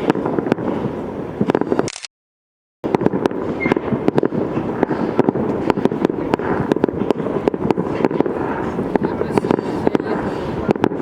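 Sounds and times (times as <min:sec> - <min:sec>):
fireworks bangs and crackles: 0:00.0 - 0:01.9, 0:02.8 - 0:11.0.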